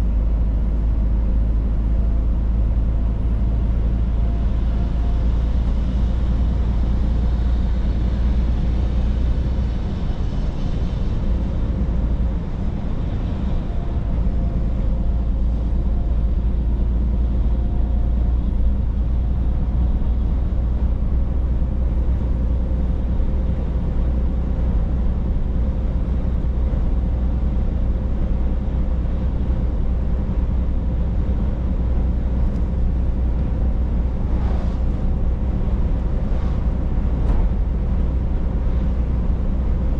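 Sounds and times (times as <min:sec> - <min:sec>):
truck engine drone: 0:00.0 - 0:39.9
tyre and road noise: 0:00.0 - 0:39.9.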